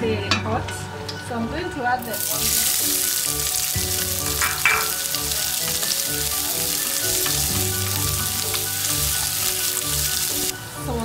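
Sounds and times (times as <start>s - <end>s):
onions sizzling in hot oil: 2.0s - 11.0s.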